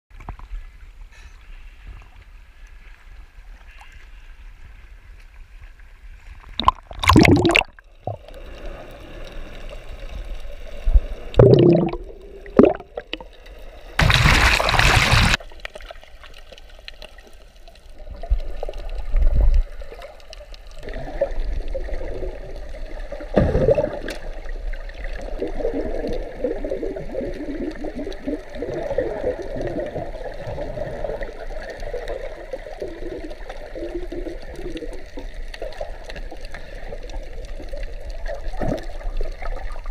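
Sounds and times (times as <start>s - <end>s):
sea water splashing: 6.5s - 39.9s.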